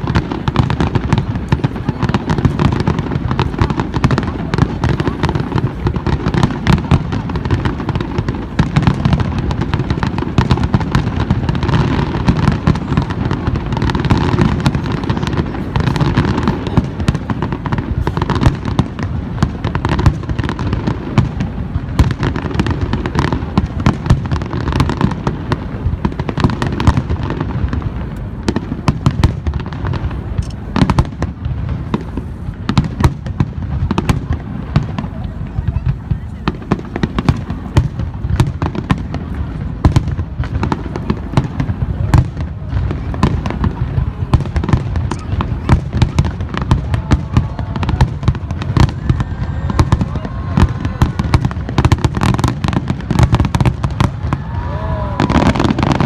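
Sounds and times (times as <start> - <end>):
fireworks cracking and booming: 0.0 - 56.0.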